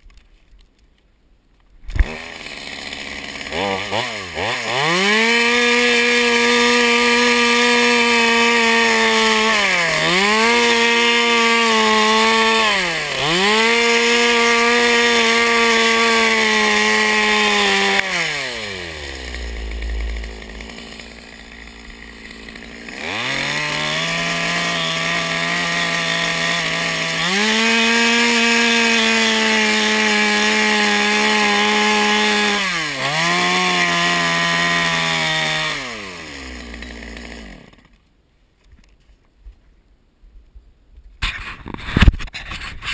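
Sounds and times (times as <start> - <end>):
chainsaw revving: 2.0 - 38.0.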